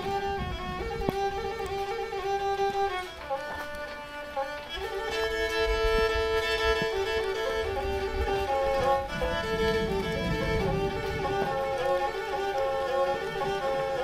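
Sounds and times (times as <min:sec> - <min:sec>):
bowed fiddle melody: 0:00.0 - 0:14.0.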